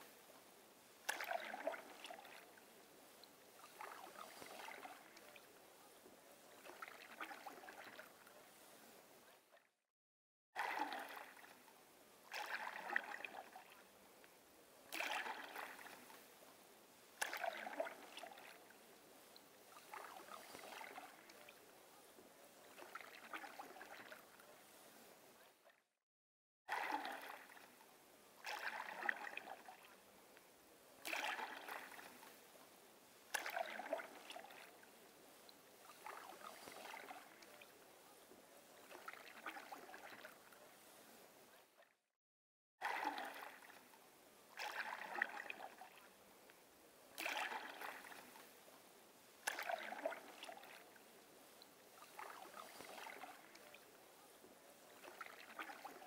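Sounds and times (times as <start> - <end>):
canoe paddle strokes in water: 0.0 - 9.5, 10.6 - 25.5, 26.7 - 41.8, 42.8 - 56.0.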